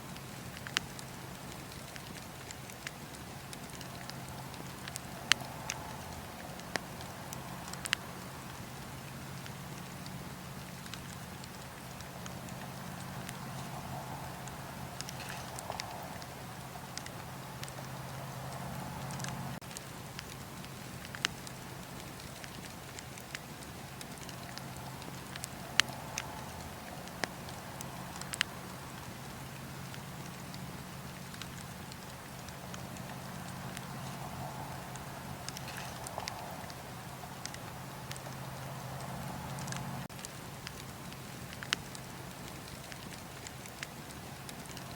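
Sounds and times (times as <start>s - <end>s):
campfire crackling: 0.0s - 44.9s
steady low hum: 0.0s - 44.9s.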